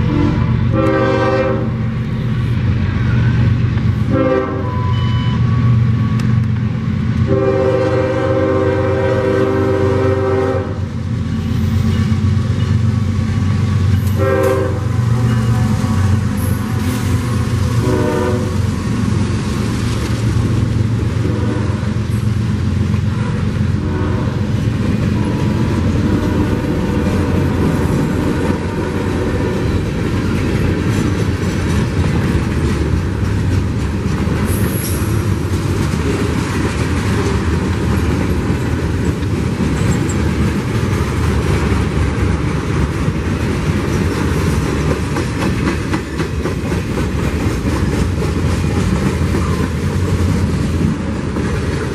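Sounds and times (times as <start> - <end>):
freight train rumbling: 0.0 - 51.9.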